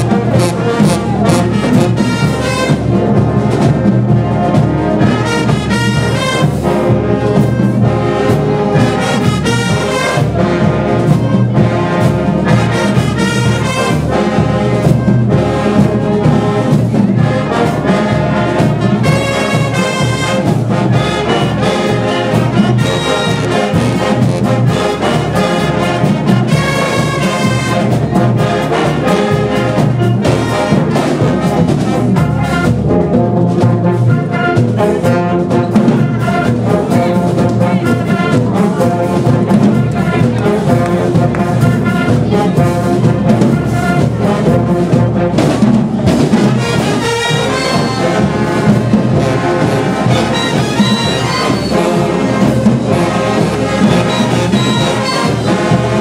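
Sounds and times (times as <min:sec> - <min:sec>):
marching band brass playing: 0:00.0 - 0:56.0.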